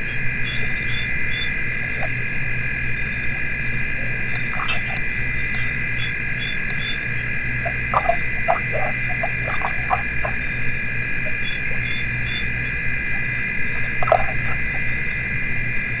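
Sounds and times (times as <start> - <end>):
high-pitched animal chorus: 0.1 - 2.2, 4.0 - 15.3.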